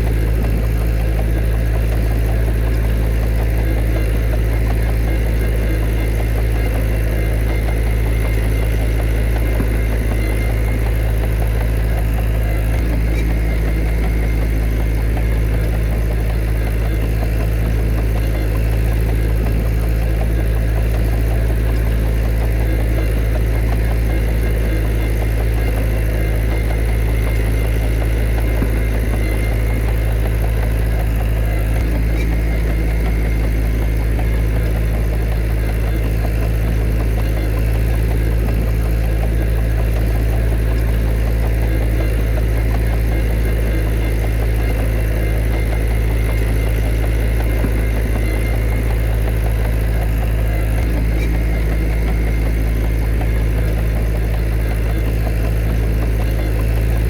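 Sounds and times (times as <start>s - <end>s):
heavy machinery diesel engine hum: 0.0s - 57.0s.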